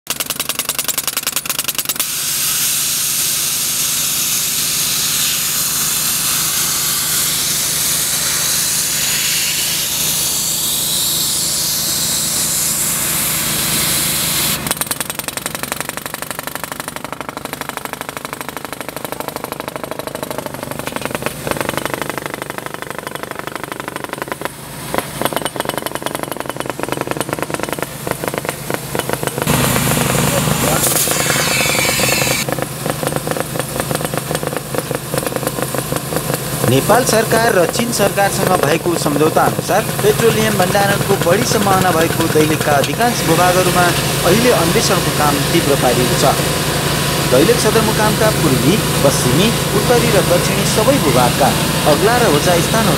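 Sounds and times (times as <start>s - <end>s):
engine-driven drilling machinery: 0.1s - 52.9s.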